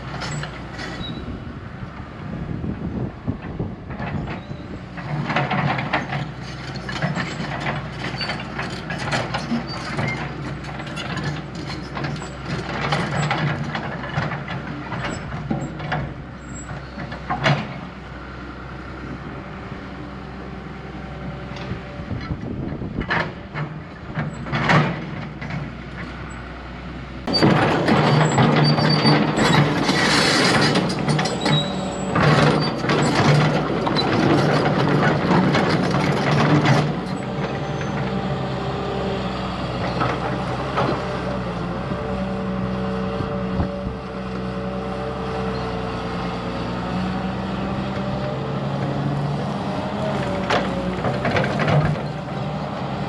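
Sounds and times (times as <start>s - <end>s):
diesel engine hum: 0.0s - 53.0s.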